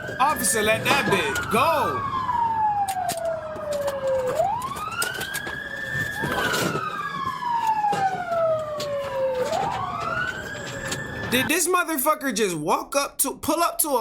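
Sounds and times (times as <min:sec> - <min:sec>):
police sirens wailing: 0:00.0 - 0:11.5.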